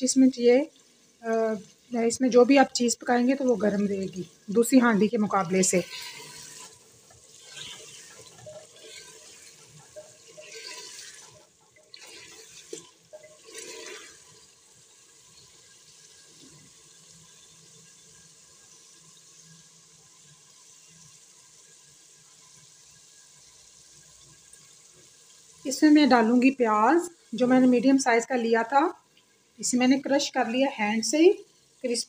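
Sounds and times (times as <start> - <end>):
faint frying sizzle: 0.0 - 32.0.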